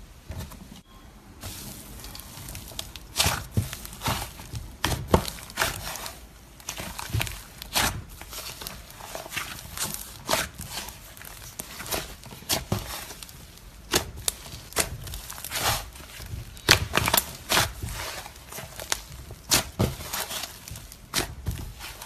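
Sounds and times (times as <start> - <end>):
slime crackling and popping: 1.9 - 22.0.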